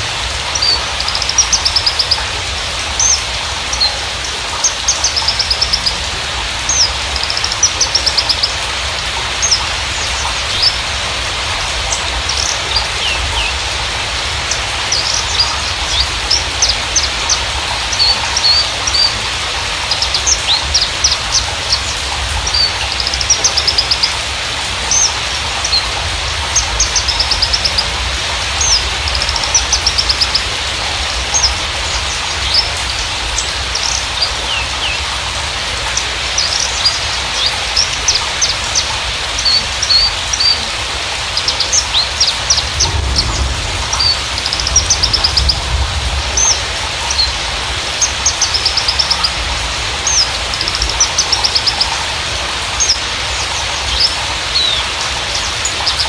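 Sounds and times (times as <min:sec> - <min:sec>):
bird chirping and trilling: 0:00.0 - 0:56.0
steady hiss: 0:00.0 - 0:56.0.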